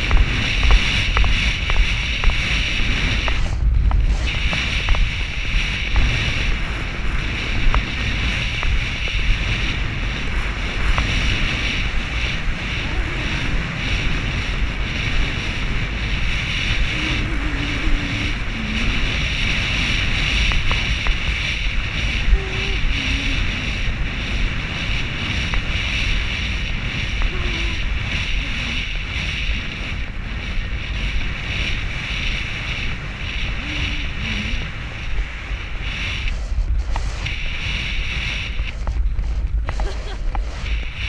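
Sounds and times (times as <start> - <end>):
rushing wind noise: 0.0 - 41.0.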